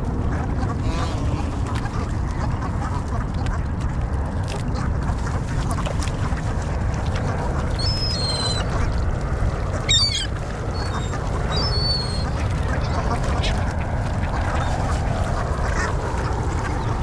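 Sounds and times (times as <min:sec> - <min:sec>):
steady low rumble: 0:00.0 - 0:17.0
waterbirds calling: 0:00.0 - 0:17.0.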